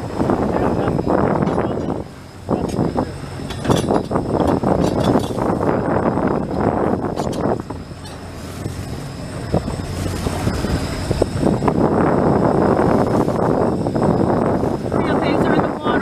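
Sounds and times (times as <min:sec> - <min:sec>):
jet boat engine: 0:00.0 - 0:16.0
water noise: 0:00.0 - 0:16.0
wind: 0:00.0 - 0:16.0.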